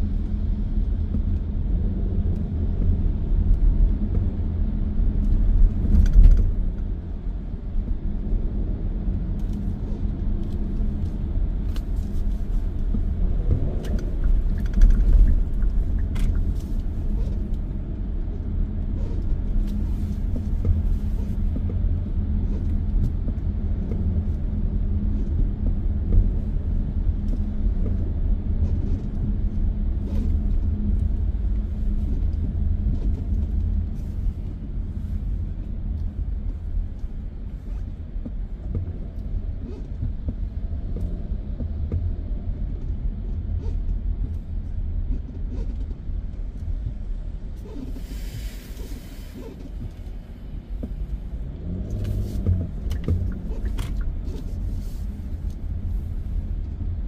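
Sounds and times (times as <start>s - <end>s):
road and tyre noise in car: 0.0s - 57.0s.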